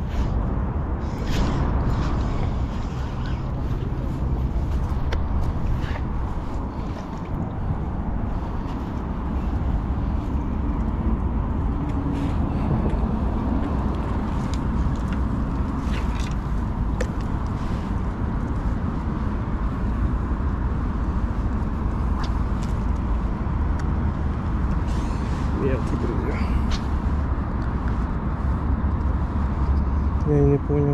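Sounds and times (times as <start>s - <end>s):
outdoor background rumble: 0.0s - 30.9s.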